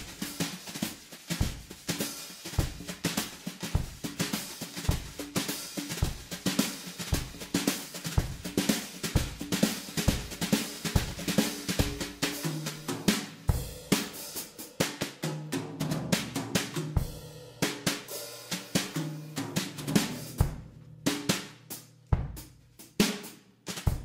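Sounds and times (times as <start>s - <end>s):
drum kit beat: 0.0s - 24.0s.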